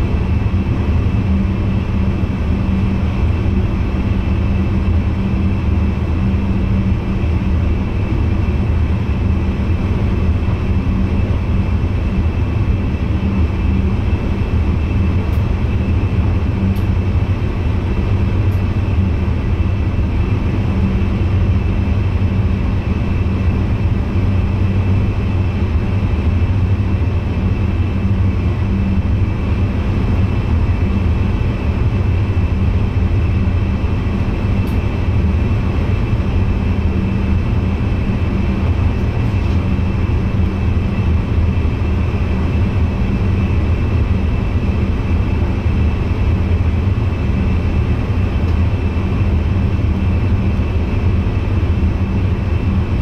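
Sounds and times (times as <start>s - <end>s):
low even hum in train cab: 0.0s - 53.0s
train rolling noise: 0.0s - 53.0s.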